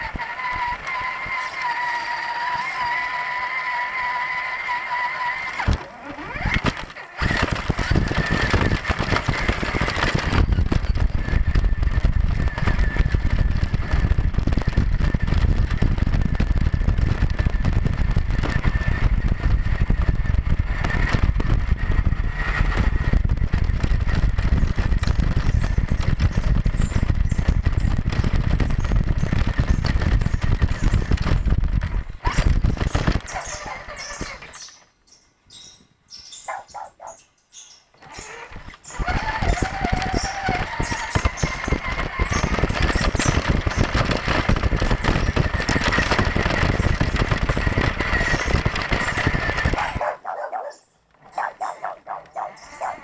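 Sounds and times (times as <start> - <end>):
toy car motor whine: 0.0 - 34.8, 38.0 - 50.1, 51.3 - 53.0
wheels rumbling over gravel: 0.0 - 34.8, 38.0 - 53.0.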